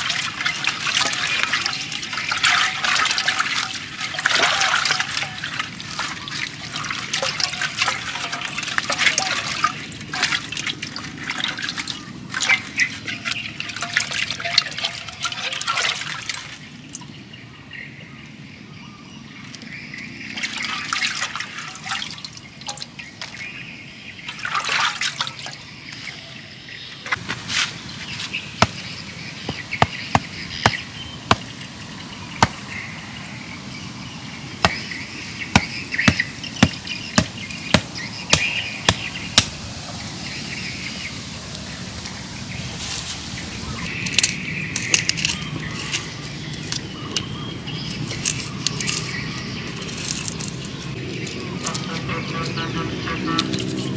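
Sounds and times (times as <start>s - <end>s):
water sloshing in a clay pot: 0.0s - 17.2s, 19.5s - 26.2s, 27.1s - 53.9s.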